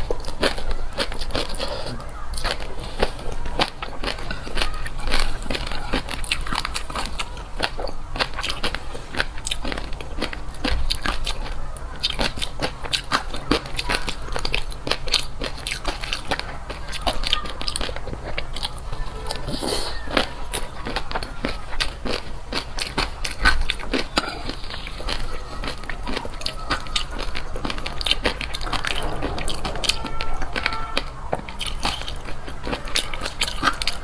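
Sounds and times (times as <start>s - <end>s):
chewing with popping crackles: 0.0s - 34.0s.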